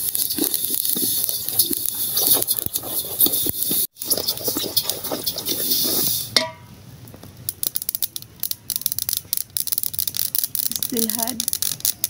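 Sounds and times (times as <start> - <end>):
seeds popping: 0.0 - 6.4, 7.1 - 12.0
wooden spoon stirring seeds in pot: 0.0 - 6.4, 7.5 - 12.0.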